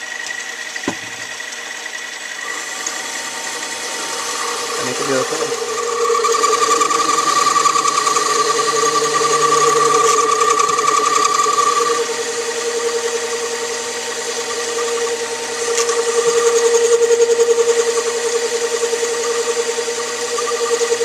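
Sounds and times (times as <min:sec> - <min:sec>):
metal lathe motor whine: 0:00.0 - 0:21.0.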